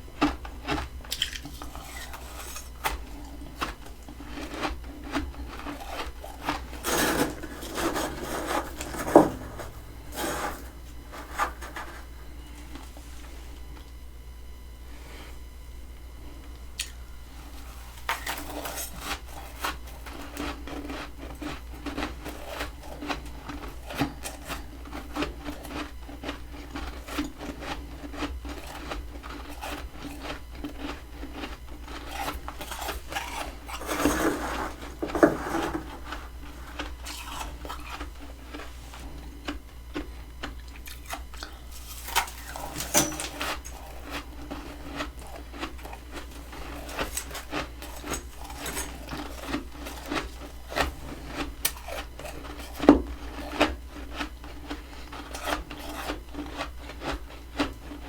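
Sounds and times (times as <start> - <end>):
frost crunching and scraping: 0.0 - 13.8, 16.8 - 58.0.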